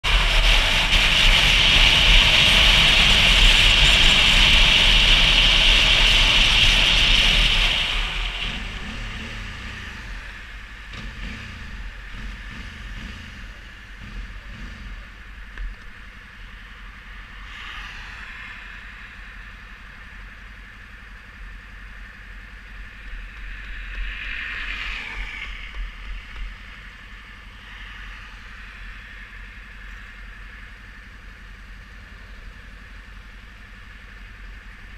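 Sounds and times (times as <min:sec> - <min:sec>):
motorcycle engine idling: 0:00.0 - 0:17.4, 0:18.9 - 0:24.0, 0:25.6 - 0:27.6, 0:28.2 - 0:34.9
passing vehicle: 0:00.0 - 0:34.9
wind and road noise: 0:00.0 - 0:34.9.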